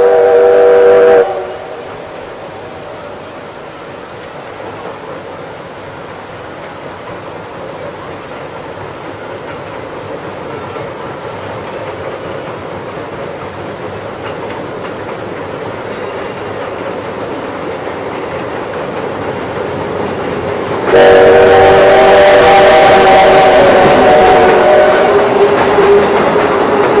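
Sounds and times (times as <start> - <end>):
steam train rumbling over bridge: 0.0 - 27.0.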